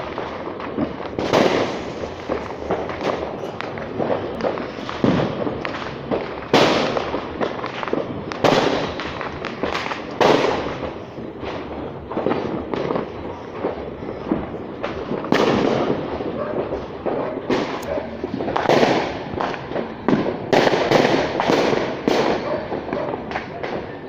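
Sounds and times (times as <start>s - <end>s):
fireworks booms: 0.0s - 24.0s
fireworks crackling: 0.0s - 24.0s.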